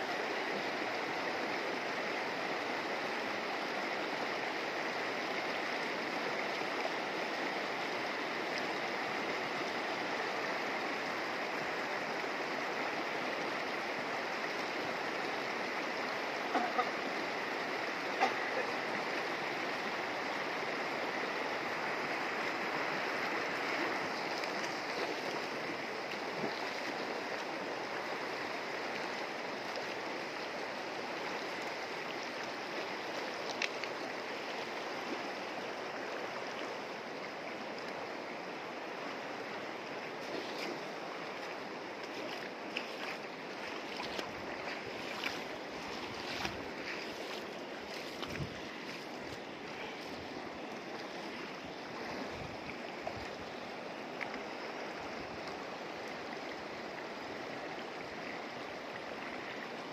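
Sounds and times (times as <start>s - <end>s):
river rushing over stones: 0.0s - 59.9s.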